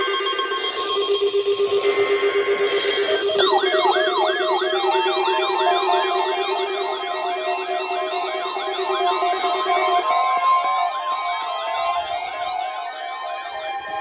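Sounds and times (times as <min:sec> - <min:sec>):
electronic alarm tones and beeps: 0:00.0 - 0:14.0
warbling siren-like tone: 0:00.0 - 0:14.0.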